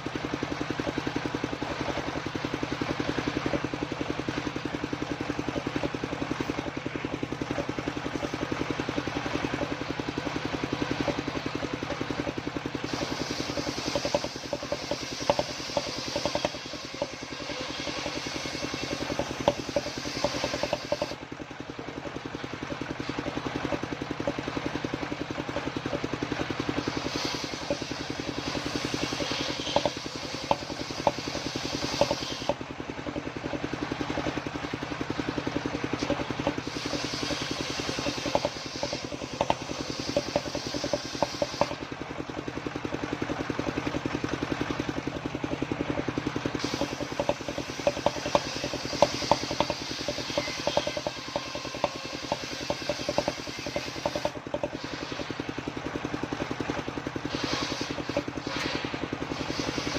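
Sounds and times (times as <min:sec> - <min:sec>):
rattling knocks from saw rig: 0:00.0 - 0:41.9, 0:45.4 - 0:55.0
circular saw cutting wood: 0:00.0 - 0:42.1, 0:43.5 - 0:59.9.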